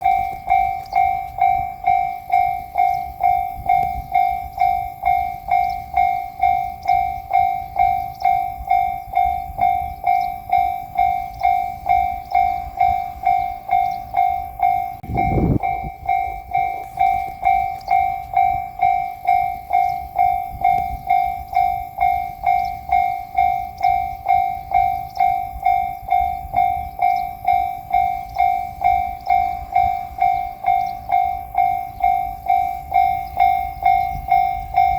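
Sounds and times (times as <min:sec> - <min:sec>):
level-crossing alarm dinging: 0:00.0 - 0:34.9.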